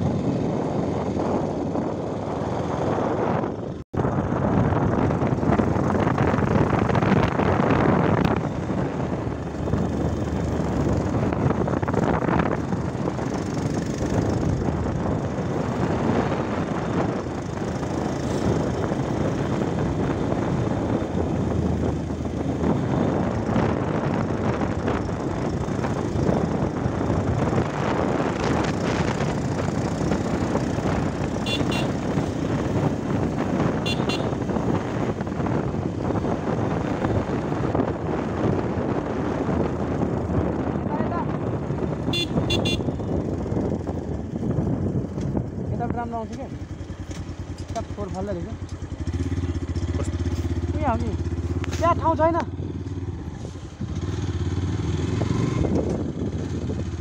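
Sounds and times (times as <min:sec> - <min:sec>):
motorbike running: 0:00.0 - 0:57.0
wind rush over microphone: 0:00.0 - 0:57.0.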